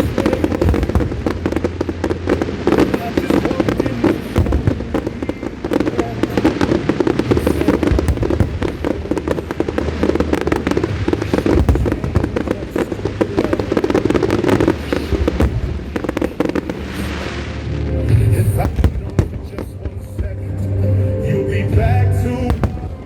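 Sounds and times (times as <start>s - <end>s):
fireworks bursting and crackling: 0.0s - 20.8s, 21.8s - 23.0s.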